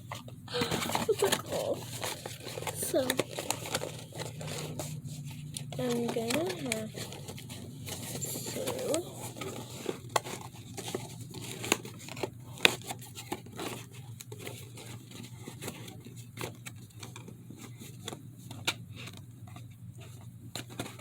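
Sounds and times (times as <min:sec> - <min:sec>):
faint low hum: 0:00.0 - 0:21.0
rustling and crinkling handling: 0:00.0 - 0:21.0.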